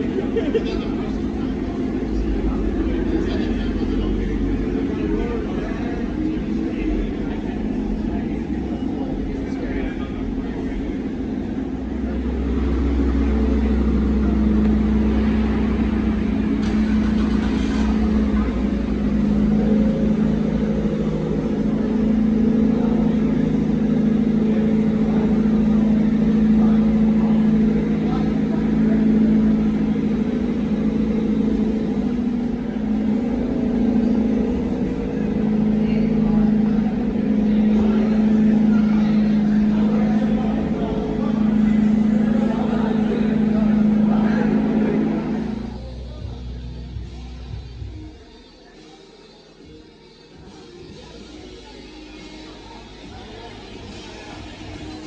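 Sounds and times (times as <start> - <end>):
low rumble: 0.0 - 48.3
car engine droning: 0.0 - 55.0.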